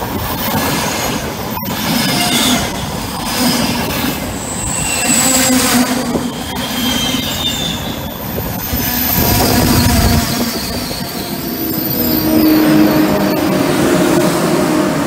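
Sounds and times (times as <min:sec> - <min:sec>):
train wheels rolling on rail: 0:00.0 - 0:15.0
high wheel squeal: 0:00.3 - 0:15.0.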